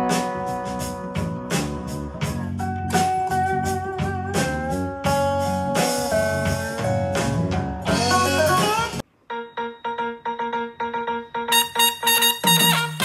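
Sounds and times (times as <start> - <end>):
music through portable speaker: 0.0 - 9.5, 11.5 - 13.0.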